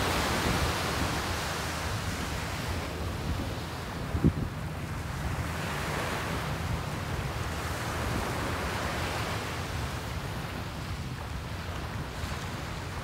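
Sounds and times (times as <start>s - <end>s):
small waves washing up beach: 0.0s - 13.0s.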